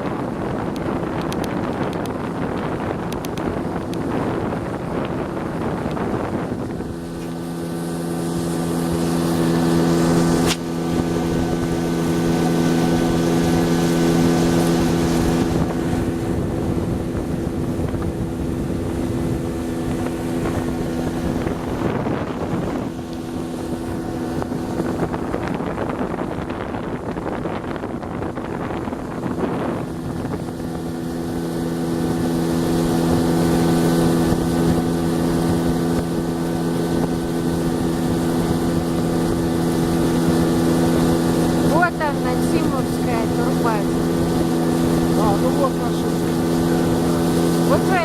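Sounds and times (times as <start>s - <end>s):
outboard motor running: 0.0s - 48.0s
wind buffeting microphone: 0.0s - 48.0s.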